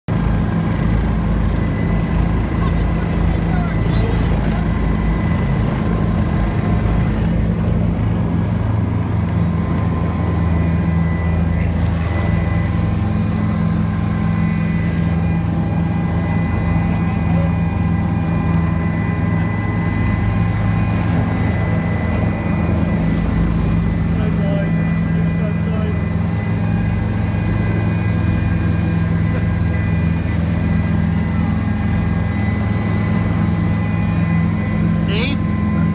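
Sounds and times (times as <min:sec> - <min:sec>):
helicopter engine and rotor drone: 0:00.0 - 0:35.9
high turbine whine: 0:00.1 - 0:35.9.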